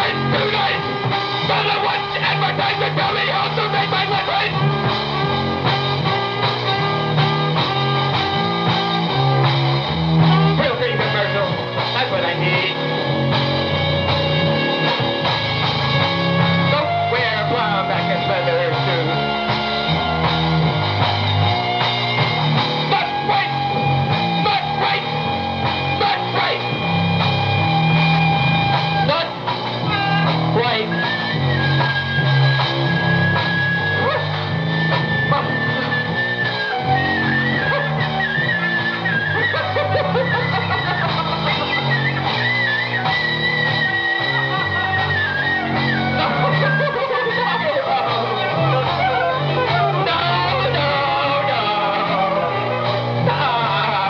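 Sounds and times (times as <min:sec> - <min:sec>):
punk rock music: 0:00.0 - 0:54.0.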